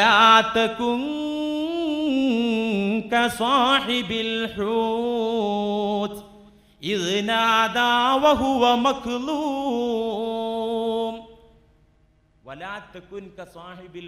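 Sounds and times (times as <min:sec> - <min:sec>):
man chanting melodic recitation: 0:00.0 - 0:11.3, 0:12.5 - 0:14.0.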